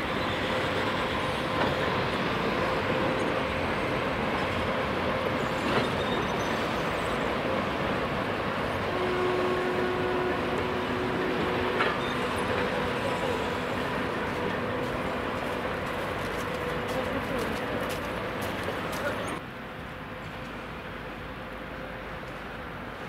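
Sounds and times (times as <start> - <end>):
diesel locomotive engine drone: 0.0 - 23.0
rolling rail noise: 0.0 - 23.0.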